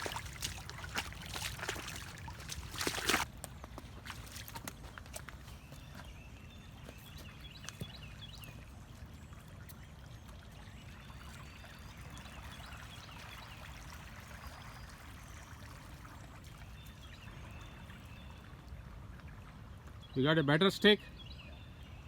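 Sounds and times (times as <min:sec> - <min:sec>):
stream water trickling: 0:00.0 - 0:20.2.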